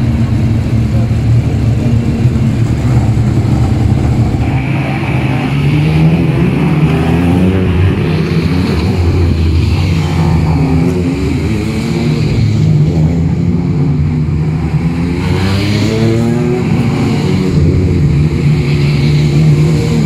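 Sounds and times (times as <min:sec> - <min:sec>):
race car engines rumbling: 0:00.0 - 0:20.0.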